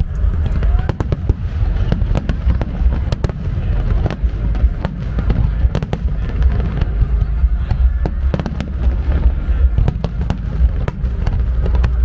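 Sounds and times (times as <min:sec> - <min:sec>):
deep rumble: 0:00.0 - 0:12.0.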